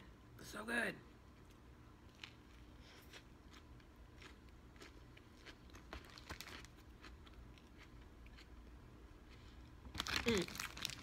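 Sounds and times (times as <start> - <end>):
close-up chewing with crunches: 1.4 - 11.0.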